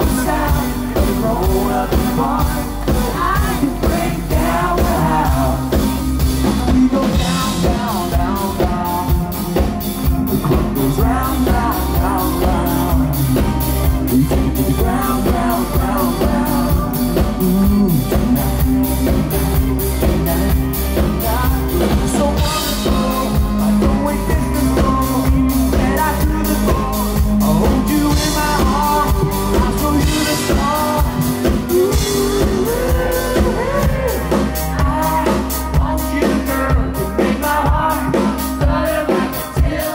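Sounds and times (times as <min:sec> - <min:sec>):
live country rock band: 0:00.0 - 0:39.9
man singing: 0:00.0 - 0:39.9.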